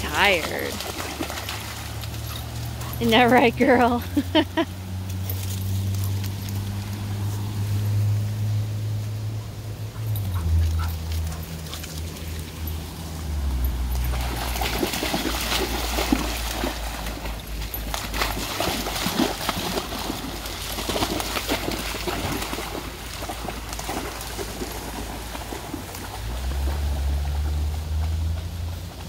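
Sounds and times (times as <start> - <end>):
dog splashing through water: 0.0 - 29.0
rushing creek water: 0.0 - 29.0.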